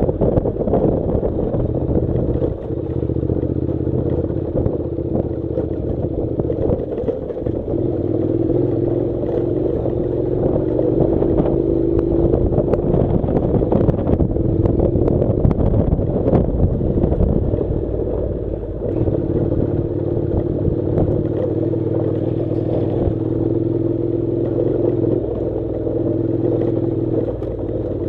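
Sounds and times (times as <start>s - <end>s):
motorcycle engine running: 0.0s - 28.0s
stones clattering under tyres: 0.2s - 28.0s.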